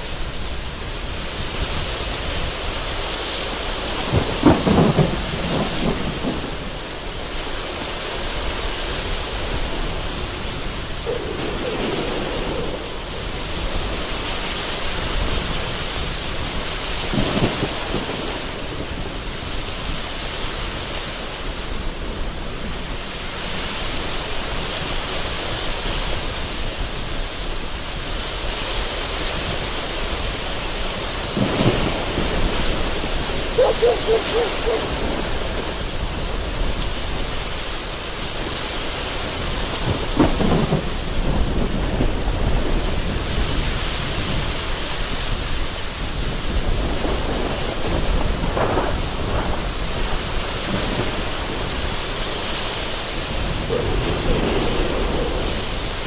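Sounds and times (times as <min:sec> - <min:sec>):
gusting wind: 0:00.0 - 0:56.0
heavy rain: 0:00.0 - 0:56.0
thunder crack and rumble: 0:00.5 - 0:20.1, 0:29.2 - 0:37.8, 0:38.4 - 0:56.0.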